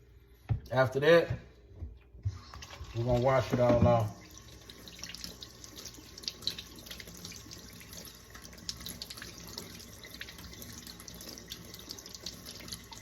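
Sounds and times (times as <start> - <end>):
tap water running into sink: 2.2 - 13.0.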